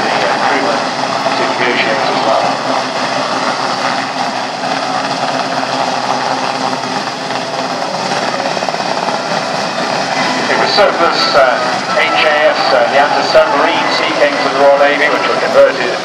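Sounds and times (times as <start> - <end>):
helicopter hovering: 0.0 - 16.0.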